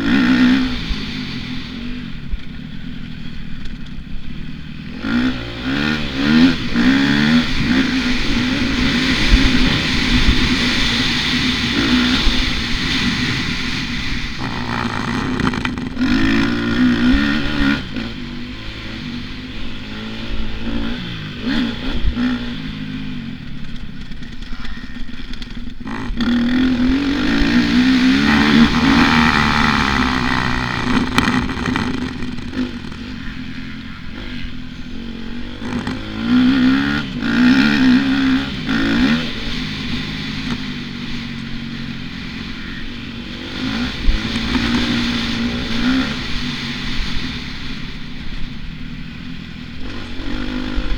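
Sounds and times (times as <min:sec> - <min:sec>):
motocross motorcycle engine revving: 0:00.0 - 0:50.9.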